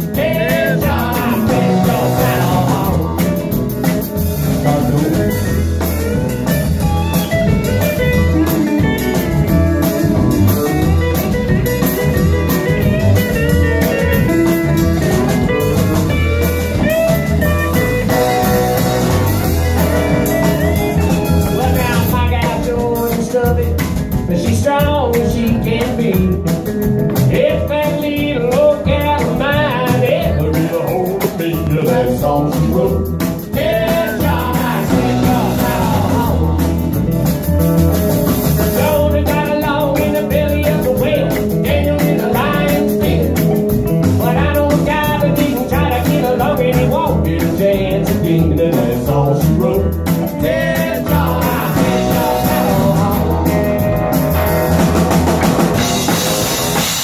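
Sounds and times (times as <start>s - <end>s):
live country band playing: 0.0s - 57.0s.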